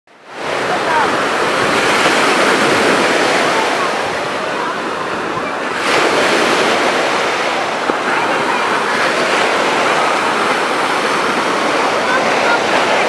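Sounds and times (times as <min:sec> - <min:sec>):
waves washing up a beach: 0:00.1 - 0:13.0.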